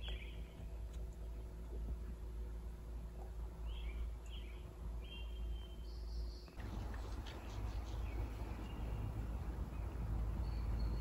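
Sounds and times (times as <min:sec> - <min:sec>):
small birds chirping: 0:00.0 - 0:01.6, 0:03.2 - 0:11.0
low outdoor rumble: 0:00.0 - 0:11.0.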